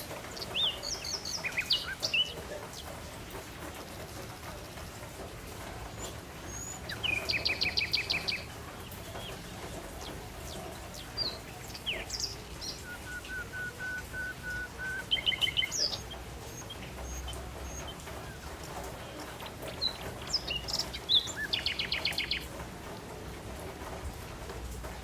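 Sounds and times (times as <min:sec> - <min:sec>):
songbirds singing and calling: 0:00.0 - 0:25.0.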